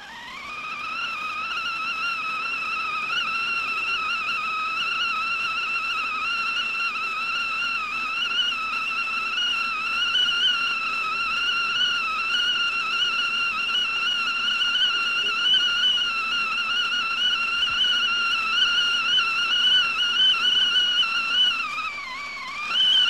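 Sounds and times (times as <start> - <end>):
tea kettle whistling: 0.0 - 23.0.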